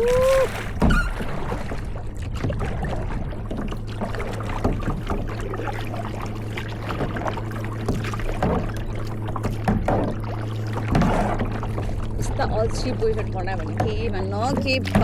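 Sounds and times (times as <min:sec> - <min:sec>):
paddle splashing in water: 0:00.0 - 0:15.0.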